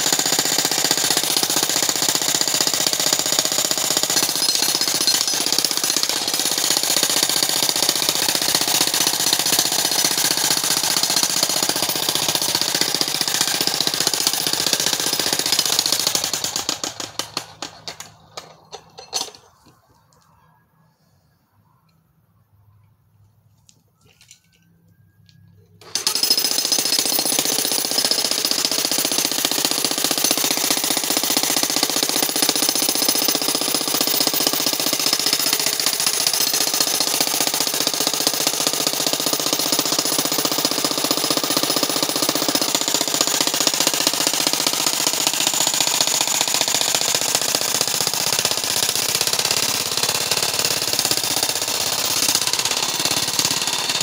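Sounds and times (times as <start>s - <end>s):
jackhammer breaking rocky ground: 0.0s - 19.2s, 25.8s - 54.0s.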